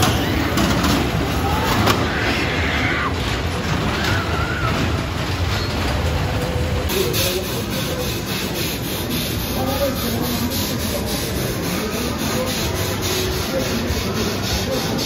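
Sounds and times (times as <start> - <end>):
faint voices: 0.0 - 15.0
ferris wheel rubbing and scraping: 0.0 - 15.0.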